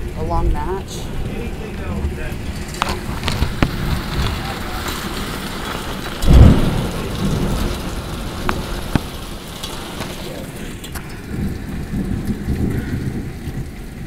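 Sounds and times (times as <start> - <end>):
rain falling: 0.0 - 14.0
thunder boom: 0.0 - 14.0.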